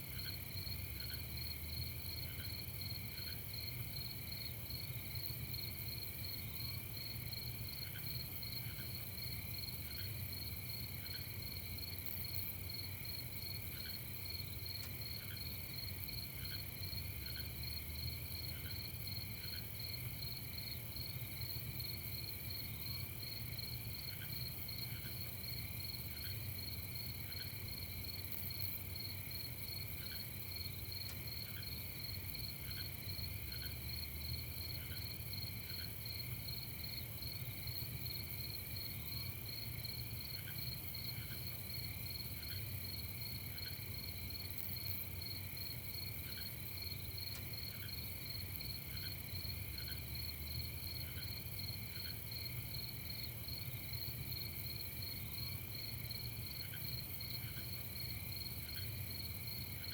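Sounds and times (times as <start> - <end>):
crickets trilling: 0.2 - 59.9.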